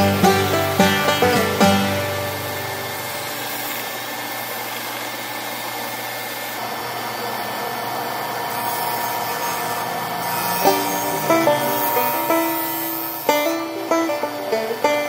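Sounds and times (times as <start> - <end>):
belt sander whirring: 0.0 - 15.0
disc sander whirring: 0.0 - 15.0.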